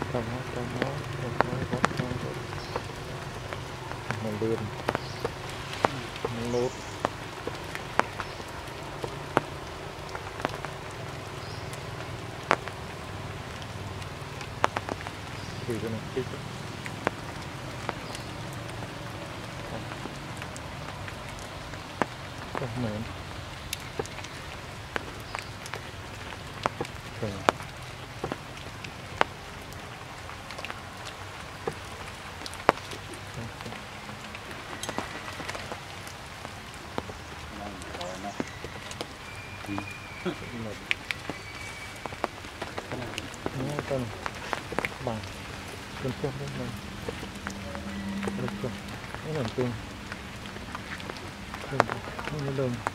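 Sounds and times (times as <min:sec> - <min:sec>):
heavy raindrops ticking: 0:00.0 - 0:52.9
steady rainfall: 0:00.0 - 0:52.9.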